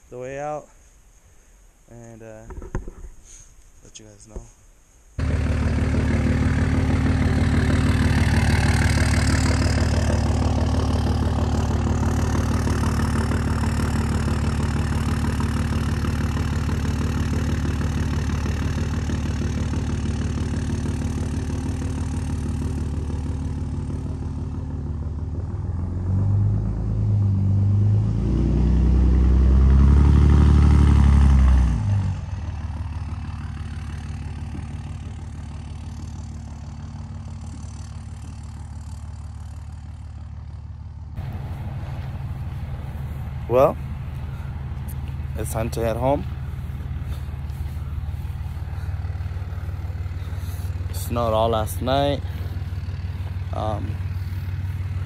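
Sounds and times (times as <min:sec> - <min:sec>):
pickup truck engine running: 0:05.2 - 0:27.9, 0:28.5 - 0:55.0
engine revving: 0:05.2 - 0:40.1, 0:41.2 - 0:55.0.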